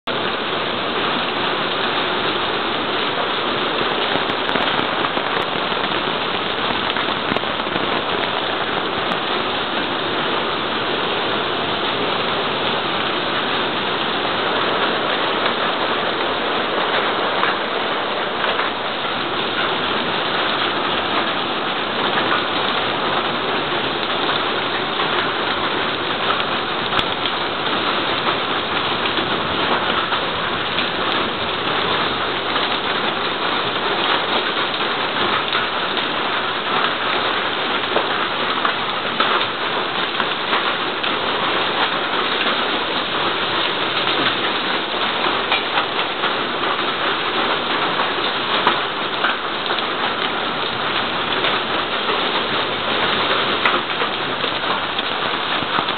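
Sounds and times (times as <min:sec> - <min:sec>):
heavy rain pouring: 0:00.0 - 0:55.9
water running off roof edge: 0:00.1 - 0:55.9.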